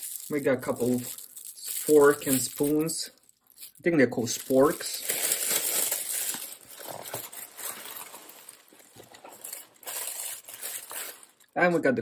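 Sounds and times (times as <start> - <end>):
plastic bag and paper rustling: 0.0 - 11.6.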